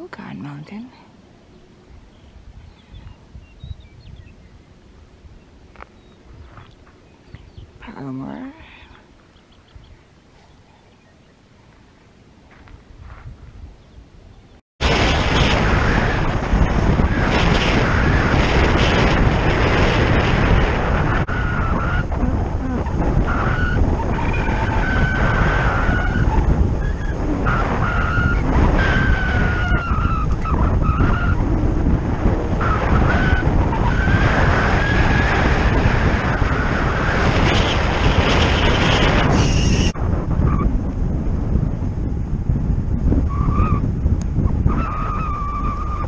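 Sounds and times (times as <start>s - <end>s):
wind rushing over microphone: 0.0s - 46.0s
road and tyre noise: 4.0s - 8.1s, 9.0s - 13.7s, 14.8s - 46.0s.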